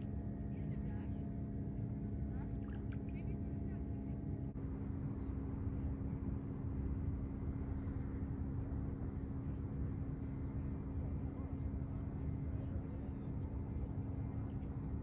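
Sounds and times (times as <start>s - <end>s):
constant hum: 0.0s - 15.0s
low outdoor rumble: 0.0s - 15.0s.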